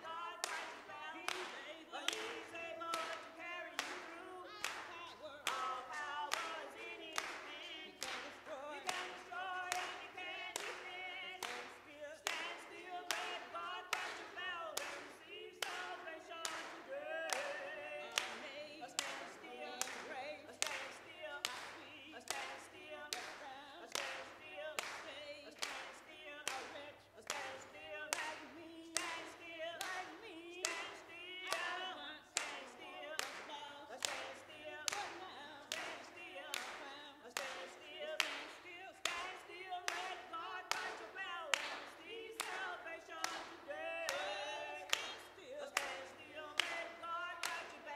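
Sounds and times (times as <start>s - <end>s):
hand claps: 0.0s - 47.9s
women singing lively song: 0.0s - 47.9s.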